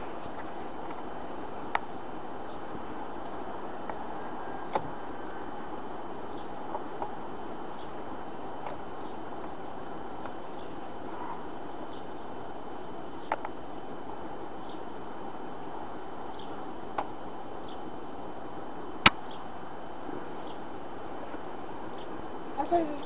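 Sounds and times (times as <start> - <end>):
honeybees humming: 0.0 - 23.0.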